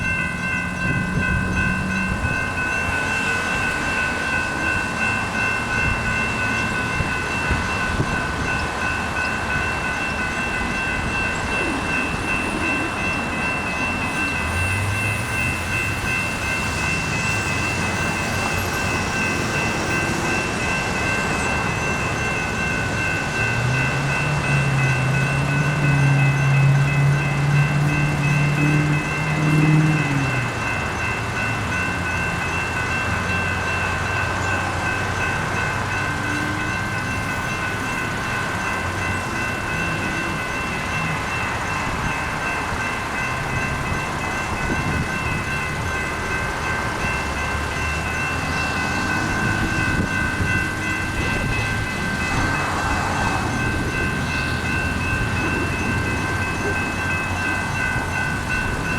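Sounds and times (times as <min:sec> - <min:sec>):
electronic crossing bells ringing: 0:00.0 - 0:58.9.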